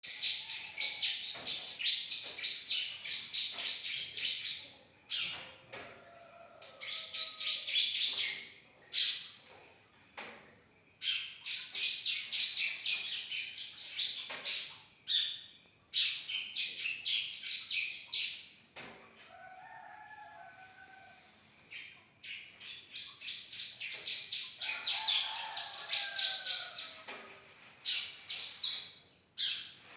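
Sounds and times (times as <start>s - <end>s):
bird chirping song: 0.0s - 5.7s, 6.7s - 9.4s, 10.9s - 18.6s, 21.6s - 29.9s.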